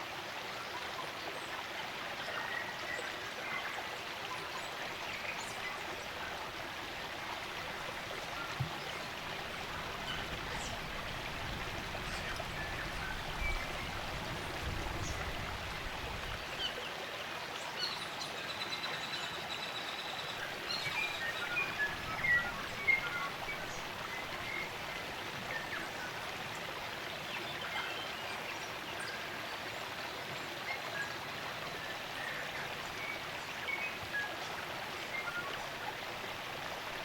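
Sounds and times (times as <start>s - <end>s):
stream running: 0.0s - 37.0s.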